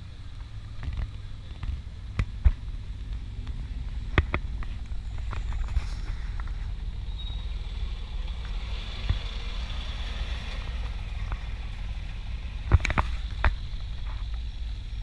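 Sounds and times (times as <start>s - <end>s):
car engine running low: 0.0s - 15.0s
exhaust cracks: 0.0s - 15.0s.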